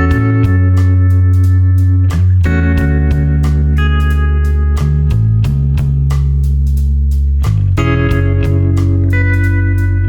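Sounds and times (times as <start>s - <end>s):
guitar music over steady beat: 0.0s - 10.0s.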